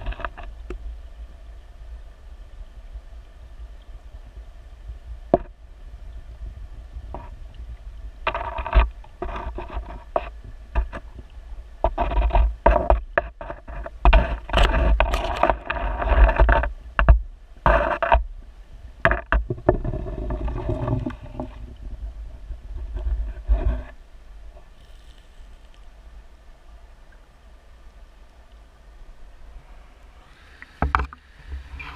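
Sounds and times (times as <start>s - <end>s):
underwater creek water rumble: 0.0s - 31.9s.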